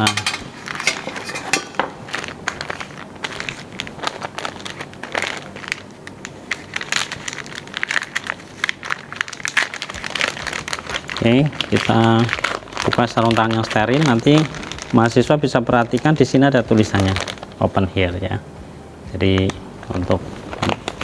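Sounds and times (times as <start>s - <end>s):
paper and plastic wrapper crinkling: 0.0s - 18.4s, 19.2s - 21.0s.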